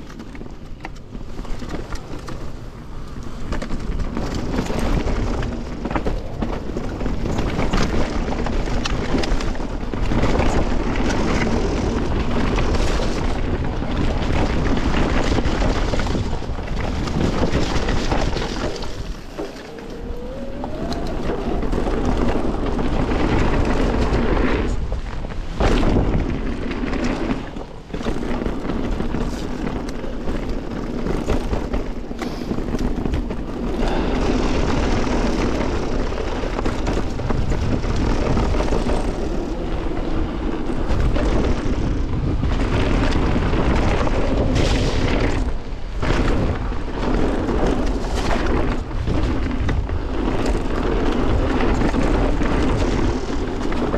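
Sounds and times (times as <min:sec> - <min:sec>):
bike tyres rolling on dirt trail: 0:00.0 - 0:53.9
wind buffeting microphone: 0:00.0 - 0:53.9.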